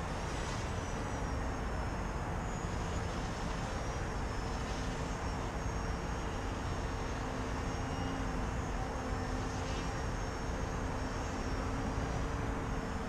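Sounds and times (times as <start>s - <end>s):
electric motor propeller drone: 0.0s - 13.0s.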